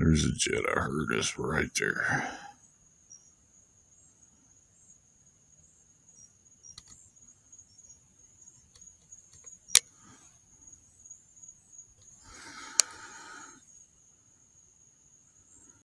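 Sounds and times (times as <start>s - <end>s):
night insects trilling: 0.1s - 15.8s.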